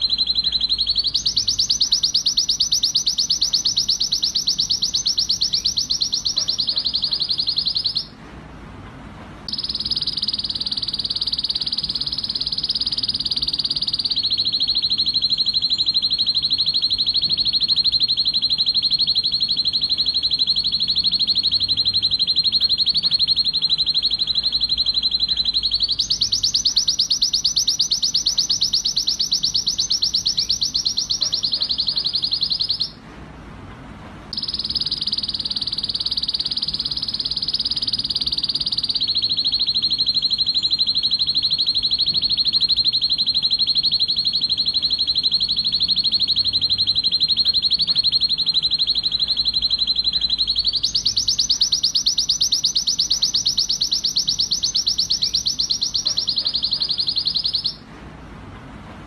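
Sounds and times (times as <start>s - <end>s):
canary singing trilled song: 0.0s - 8.2s, 9.5s - 33.0s, 34.3s - 57.9s.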